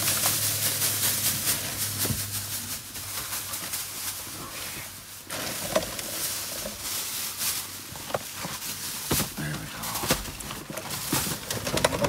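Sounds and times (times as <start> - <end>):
plastic garbage bags rustling: 0.0 - 12.0.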